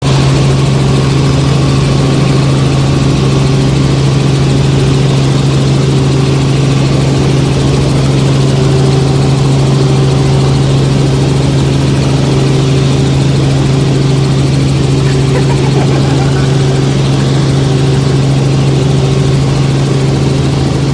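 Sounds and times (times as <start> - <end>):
helicopter drone: 0.0 - 20.9.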